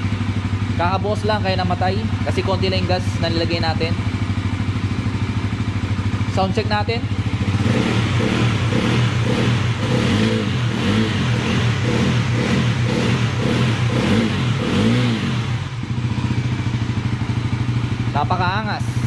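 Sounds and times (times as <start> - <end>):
motorcycle engine revving and idling: 0.0 - 19.0.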